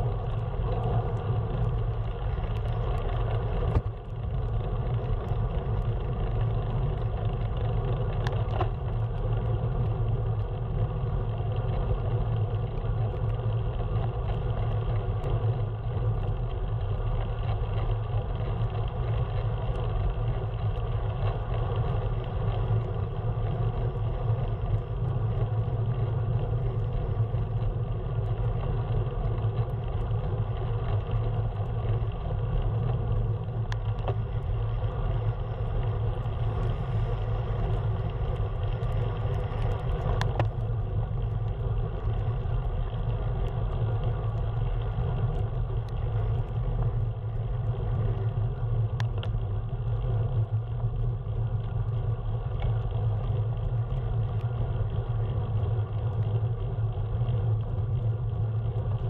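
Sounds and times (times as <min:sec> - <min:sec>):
vehicle road rumble: 0:00.0 - 0:59.0.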